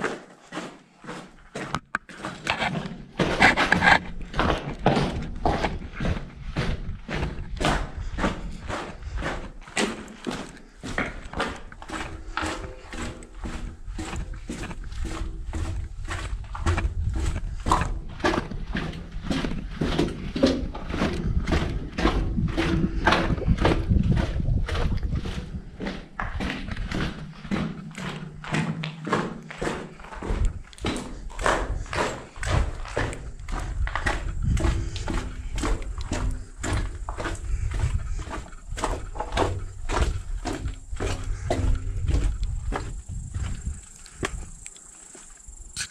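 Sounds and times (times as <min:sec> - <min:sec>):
footsteps on rubble: 0:00.0 - 0:45.9.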